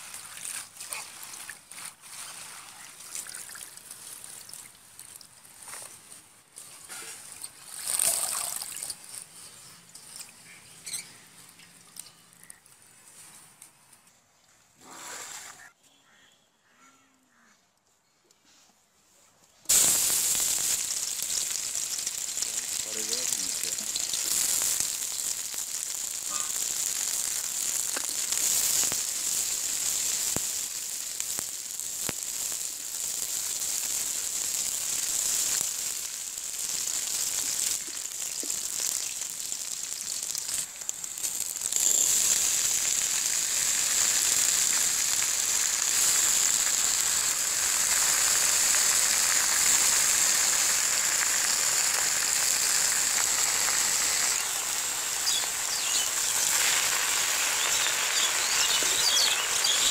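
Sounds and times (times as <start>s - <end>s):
food sizzling in hot oil: 0.0s - 12.6s, 19.7s - 59.9s.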